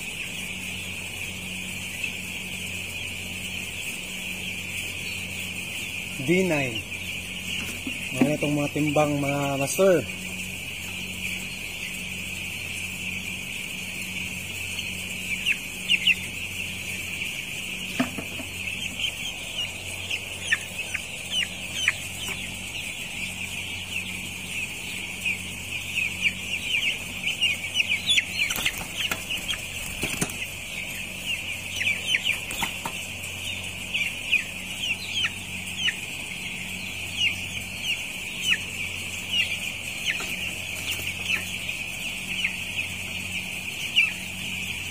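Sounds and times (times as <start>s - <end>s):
chicks peeping: 0.0s - 44.9s
steady low hum: 0.0s - 44.9s.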